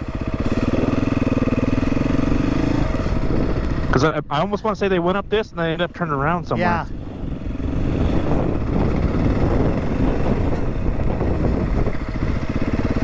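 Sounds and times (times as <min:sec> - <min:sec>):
dirt bike engine at low revs: 0:00.0 - 0:04.4, 0:05.1 - 0:13.0.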